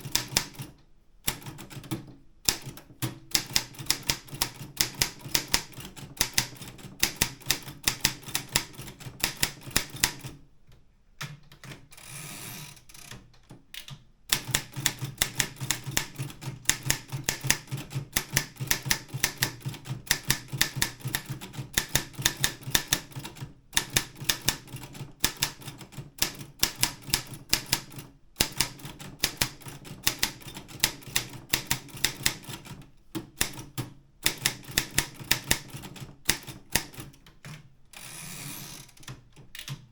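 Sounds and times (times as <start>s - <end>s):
manual typewriter typing: 0.0s - 10.4s, 11.2s - 39.9s.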